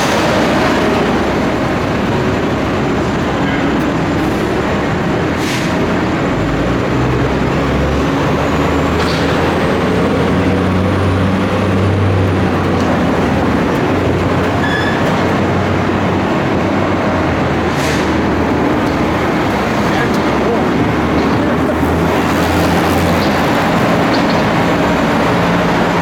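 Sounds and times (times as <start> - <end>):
construction machinery engine drone: 0.0 - 26.0.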